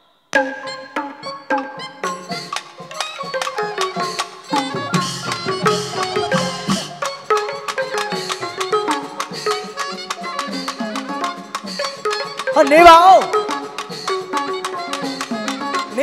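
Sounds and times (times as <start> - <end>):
tuned percussion melody: 0.3 - 16.0
bamboo clappers clicking: 2.4 - 16.0.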